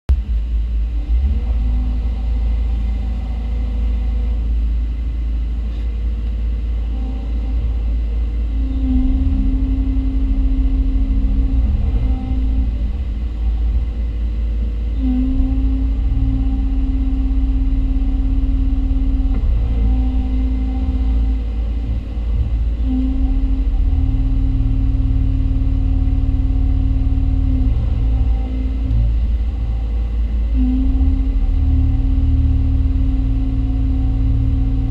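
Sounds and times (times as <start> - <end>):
excavator engine and hydraulics: 0.1 - 34.9.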